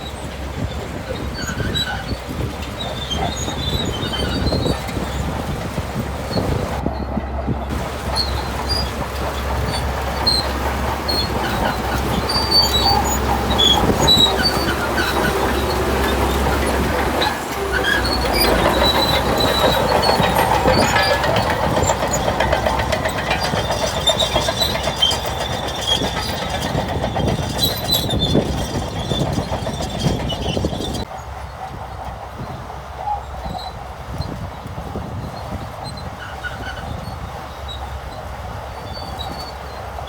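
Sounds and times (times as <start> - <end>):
bulldozer engine running: 0.0 - 40.0
steel tracks clanking: 0.0 - 40.0
track chain squealing: 0.0 - 40.0.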